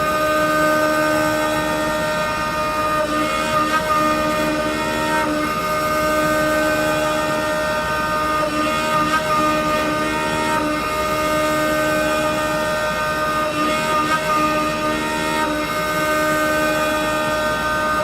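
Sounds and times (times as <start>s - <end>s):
lathe running with whining tones: 0.0s - 18.0s.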